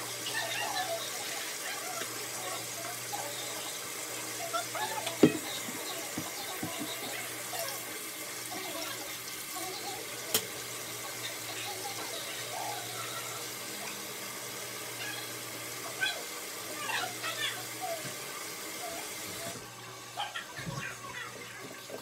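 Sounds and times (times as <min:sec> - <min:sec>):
water running: 0:00.0 - 0:22.0.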